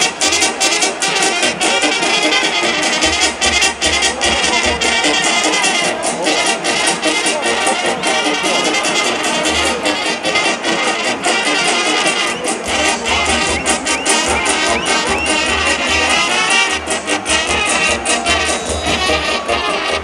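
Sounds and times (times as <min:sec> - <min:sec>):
brass band playing: 0:00.0 - 0:20.0
steady drum beat: 0:00.0 - 0:20.0.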